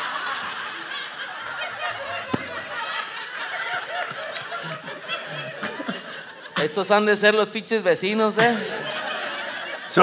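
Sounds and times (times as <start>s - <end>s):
studio audience laughing: 0.0s - 7.2s, 8.2s - 10.0s.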